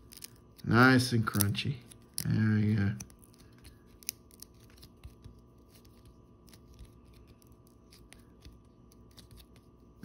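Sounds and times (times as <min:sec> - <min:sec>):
cards clicking and rustling: 0:00.0 - 0:10.0.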